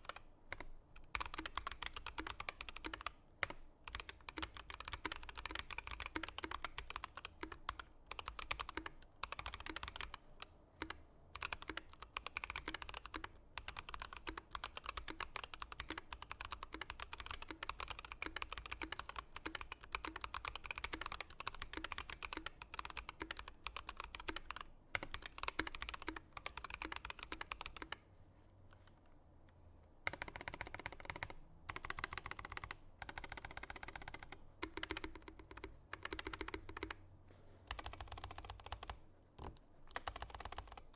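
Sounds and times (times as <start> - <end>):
mechanical keyboard typing: 0.0 - 28.0, 30.0 - 37.0, 37.7 - 40.9.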